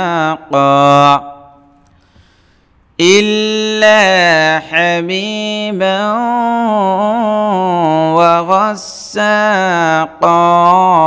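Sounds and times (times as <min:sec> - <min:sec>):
person chanting melodically: 0:00.0 - 0:01.8, 0:03.0 - 0:11.0.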